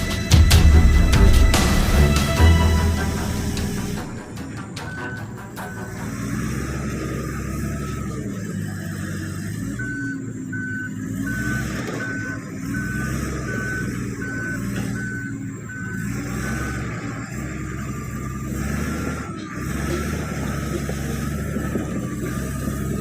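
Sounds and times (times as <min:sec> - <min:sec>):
backup alarm beeping: 0:00.0 - 0:19.5
bulldozer diesel engine running: 0:00.0 - 0:23.0.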